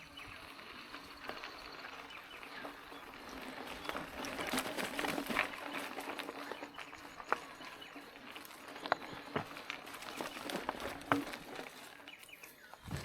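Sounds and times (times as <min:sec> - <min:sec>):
bike tyres crunching gravel: 0:00.0 - 0:13.0
bike knocks and rattles: 0:00.2 - 0:13.0.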